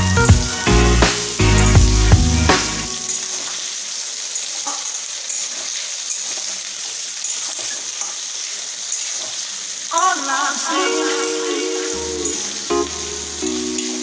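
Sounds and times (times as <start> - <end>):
onions sizzling in hot oil: 0.1 - 14.0.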